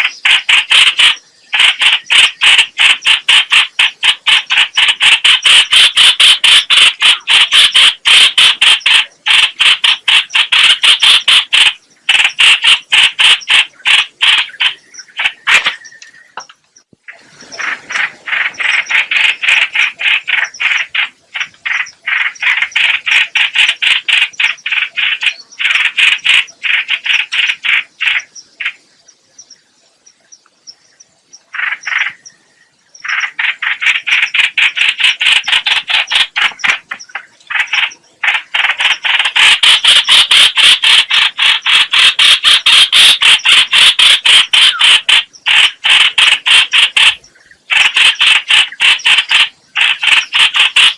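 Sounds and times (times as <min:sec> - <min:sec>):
bird calling harsh repeated notes: 0:00.0 - 0:50.9.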